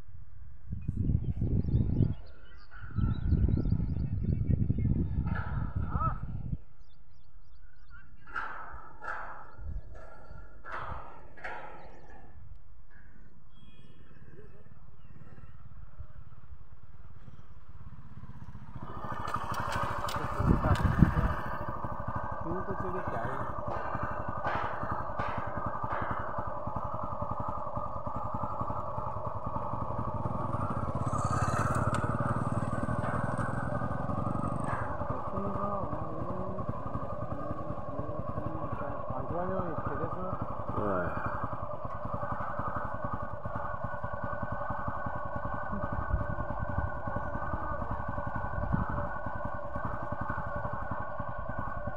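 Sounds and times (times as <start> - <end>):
engine idling: 0.1 - 51.9.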